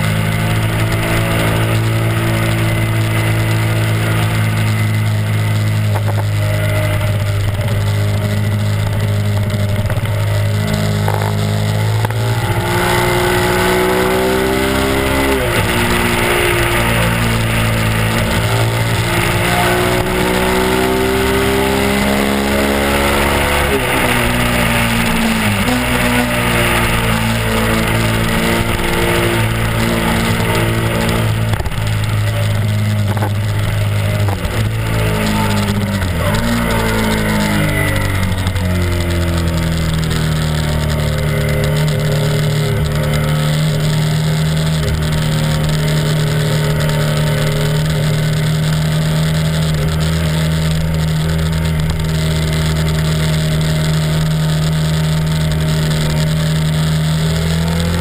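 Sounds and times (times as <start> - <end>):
motorcycle engine accelerating: 0.0 - 58.0
wind noise: 0.0 - 58.0.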